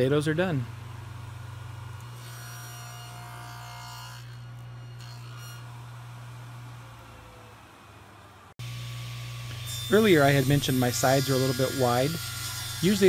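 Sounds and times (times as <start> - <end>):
table saw running: 0.0 - 8.0, 8.6 - 13.0.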